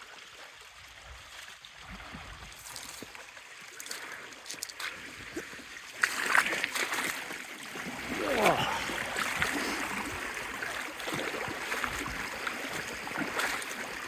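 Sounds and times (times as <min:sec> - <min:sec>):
river water running over stones: 0:00.0 - 0:14.0
small splashes and knocks: 0:01.9 - 0:14.0.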